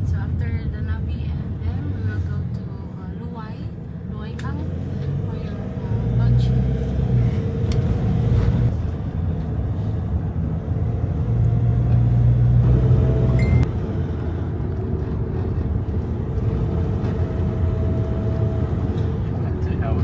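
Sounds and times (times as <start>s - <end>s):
low engine tone: 0.0s - 20.0s
vehicle engine and road noise: 0.0s - 20.0s.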